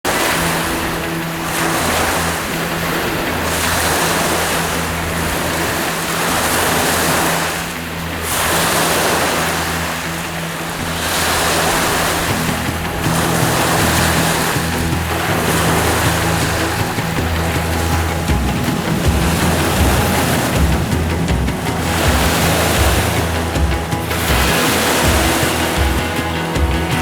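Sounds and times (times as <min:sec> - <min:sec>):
waves breaking on beach: 0:00.1 - 0:27.0.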